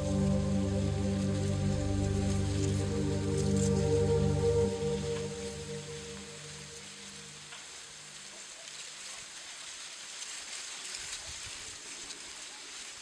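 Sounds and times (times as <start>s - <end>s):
wind rustling through reeds: 0.0s - 13.0s.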